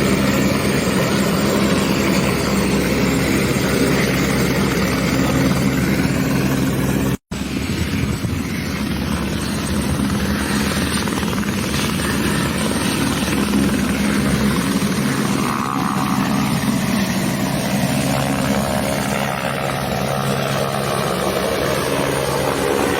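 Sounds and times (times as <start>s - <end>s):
helicopter rotor and turbine: 0.0s - 22.9s.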